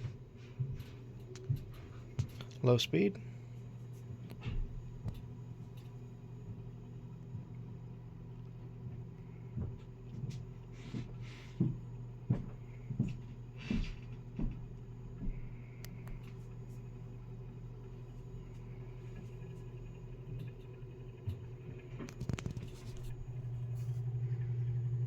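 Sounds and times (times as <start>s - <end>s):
table fan motor hum: 0.0s - 25.0s.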